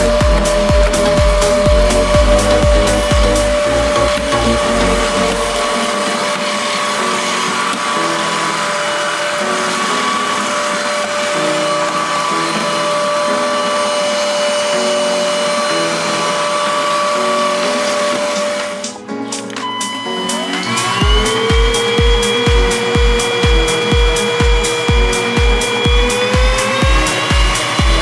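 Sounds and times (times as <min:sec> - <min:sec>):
vacuum cleaner motor whining: 0:00.0 - 0:28.0.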